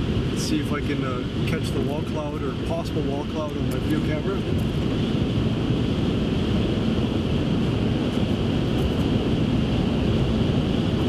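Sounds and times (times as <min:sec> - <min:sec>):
road and wind noise in vehicle cabin: 0:00.0 - 0:11.0.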